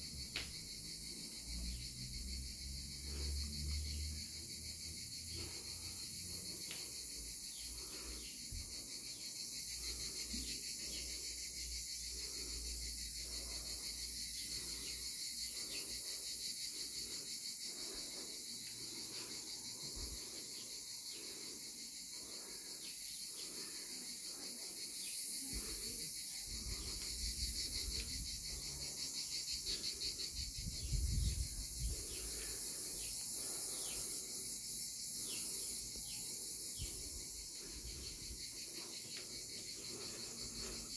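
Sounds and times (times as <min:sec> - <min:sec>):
cicadas chorus: 0:00.0 - 0:40.9.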